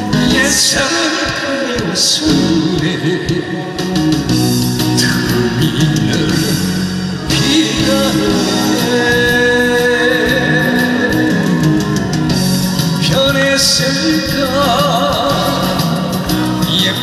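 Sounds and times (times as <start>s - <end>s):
amplified backing music with guitar: 0.0s - 17.0s
man singing into a microphone: 0.0s - 17.0s.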